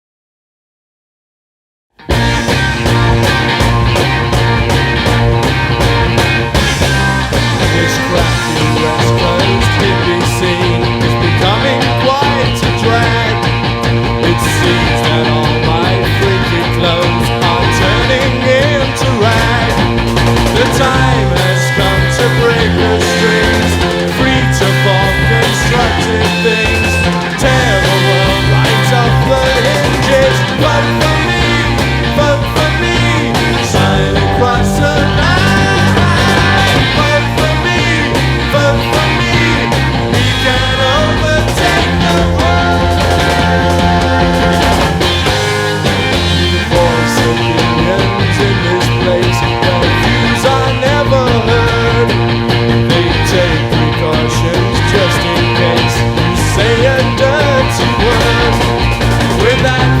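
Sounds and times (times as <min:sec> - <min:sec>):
psychedelic rock band playing: 0:02.0 - 1:00.0.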